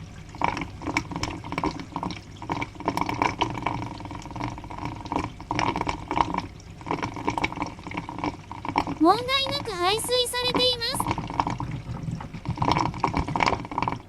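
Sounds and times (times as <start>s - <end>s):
water pouring into floor drain: 0.0s - 9.0s, 11.0s - 14.0s.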